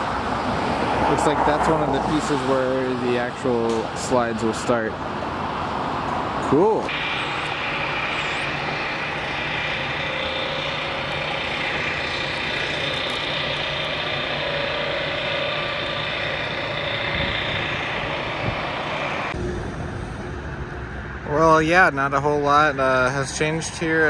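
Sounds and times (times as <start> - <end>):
engine drone: 0.0 - 24.0.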